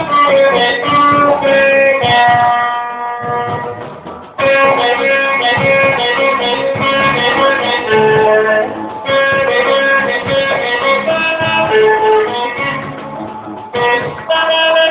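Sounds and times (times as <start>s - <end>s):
guitar plucked melody: 0.0s - 14.9s.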